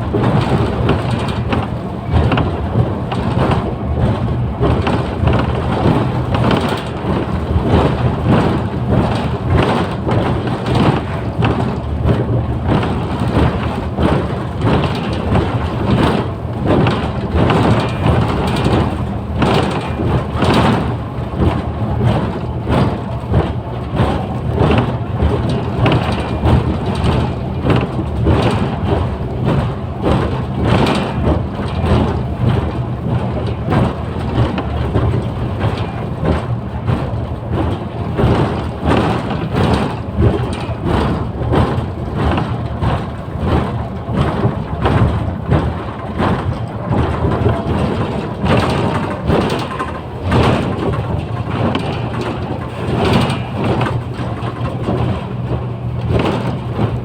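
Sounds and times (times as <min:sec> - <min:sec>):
diesel engine drone: 0:00.0 - 0:57.0
road noise: 0:00.0 - 0:57.0
short knocks and rattles: 0:00.0 - 0:57.0.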